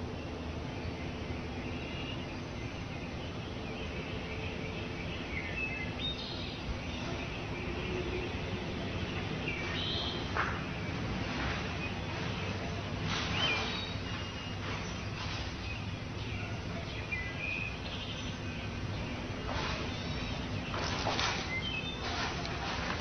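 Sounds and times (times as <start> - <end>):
low background rumble and hiss: 0.0 - 23.0
high bird chirps: 1.0 - 23.0.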